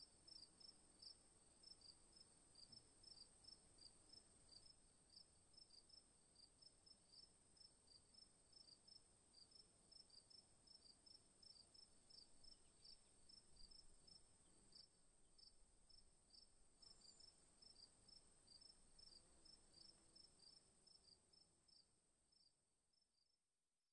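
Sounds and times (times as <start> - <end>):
faint insect chirping: 0.0 - 23.4.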